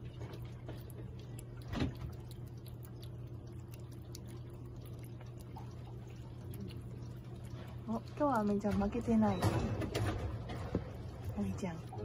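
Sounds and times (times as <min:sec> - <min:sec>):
cat licking wet lapping: 0:00.0 - 0:12.0
steady low hum: 0:00.0 - 0:12.0.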